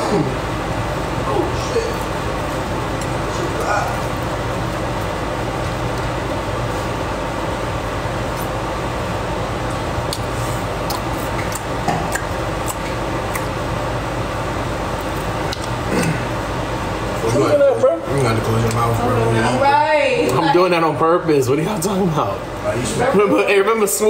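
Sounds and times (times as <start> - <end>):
fan-like room hum: 0.0 - 24.0.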